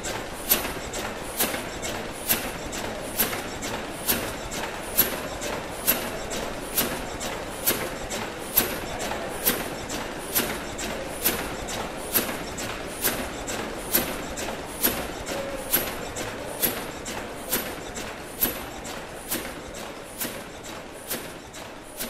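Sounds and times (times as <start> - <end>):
mechanical hum: 0.0 - 22.0
steam engine running: 0.0 - 22.0.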